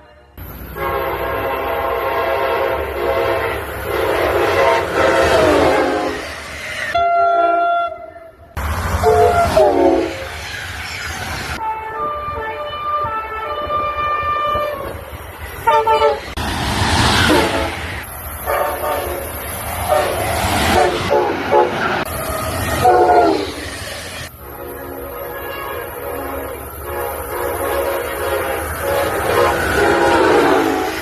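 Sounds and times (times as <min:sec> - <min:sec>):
train horn blasts: 0:00.0 - 0:06.3, 0:06.9 - 0:08.3, 0:09.0 - 0:10.3, 0:11.6 - 0:15.0, 0:15.6 - 0:16.4, 0:17.2 - 0:23.6, 0:24.4 - 0:31.0
rumble of passing trains: 0:00.0 - 0:31.0.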